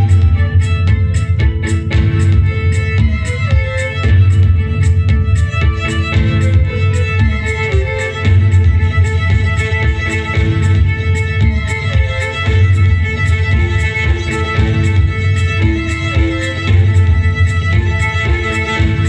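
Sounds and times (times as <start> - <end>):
bass: 0.0 - 19.0
steady drum beat: 0.0 - 19.0
violin melody: 0.0 - 19.0.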